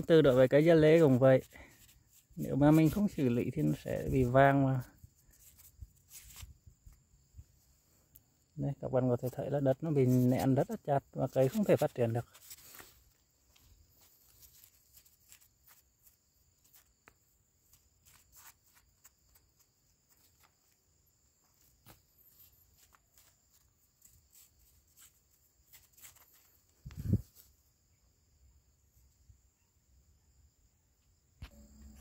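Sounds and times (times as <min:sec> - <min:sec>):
stick scratching soil: 0:00.0 - 0:07.0, 0:08.9 - 0:27.6.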